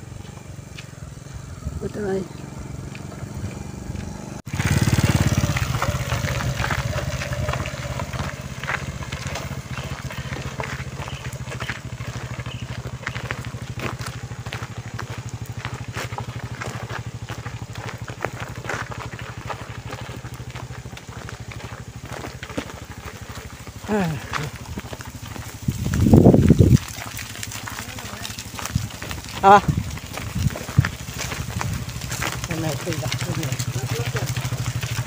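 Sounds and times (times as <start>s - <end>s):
gravel clicks: 0.0s - 35.0s
motorcycle engine running: 0.0s - 35.0s.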